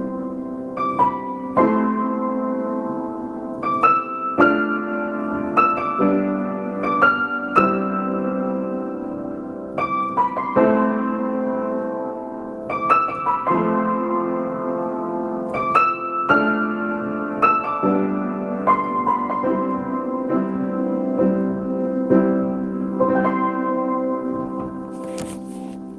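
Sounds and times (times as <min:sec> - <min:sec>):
slow solo piano piece: 0:00.0 - 0:25.9.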